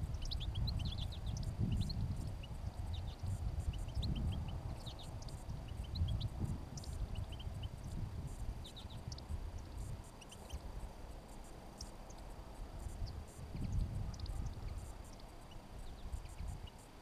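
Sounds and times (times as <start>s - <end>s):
finches chirping: 0.0s - 17.0s
wind rumble on microphone: 0.0s - 17.0s.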